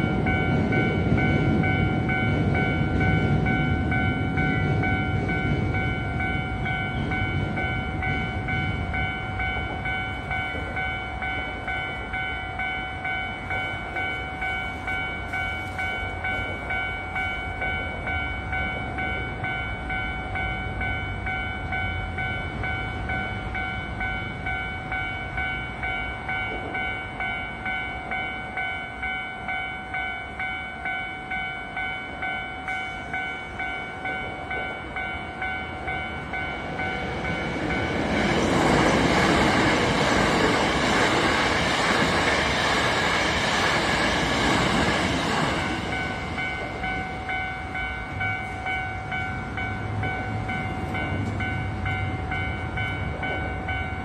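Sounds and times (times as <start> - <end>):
level-crossing warning bell ringing: 0.0 - 54.0
train rumble: 0.0 - 54.0.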